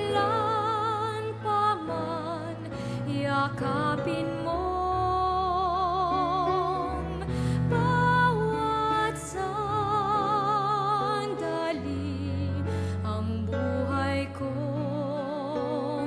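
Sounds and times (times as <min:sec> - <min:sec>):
slow tender background music: 0:00.0 - 0:16.0.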